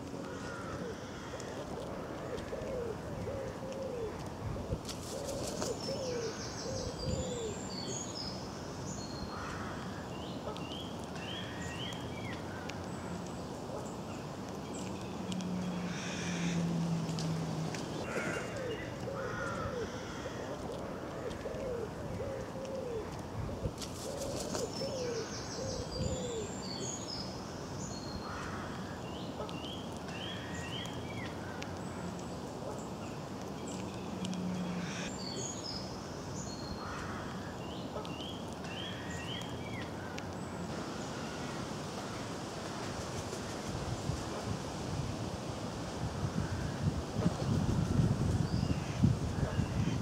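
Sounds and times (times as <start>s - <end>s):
songbirds singing: 0.0s - 42.3s, 46.4s - 50.0s.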